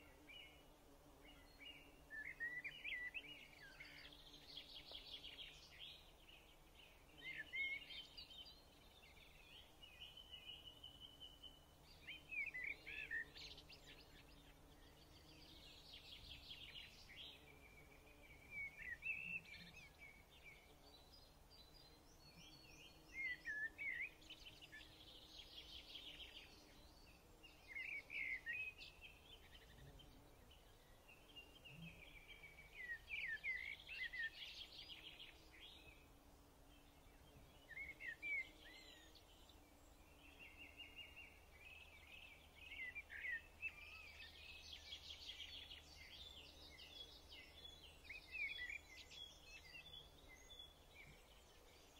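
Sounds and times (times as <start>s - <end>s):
faint bird chirps and trills: 0.0s - 51.9s.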